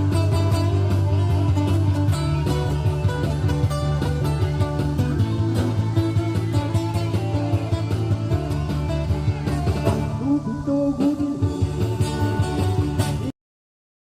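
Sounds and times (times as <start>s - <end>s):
acoustic guitar playing: 0.0s - 13.4s.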